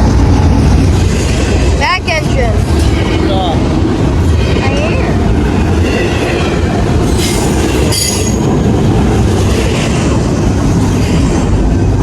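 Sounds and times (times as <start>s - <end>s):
train cars rumbling past: 0.0s - 12.0s.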